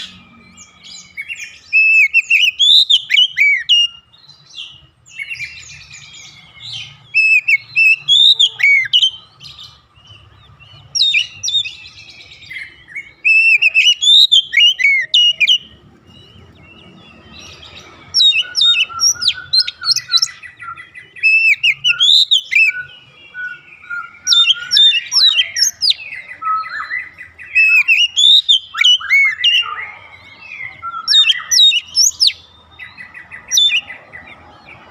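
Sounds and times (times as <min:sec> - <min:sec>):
bird singing whistles and chatter: 0:00.0 - 0:34.9.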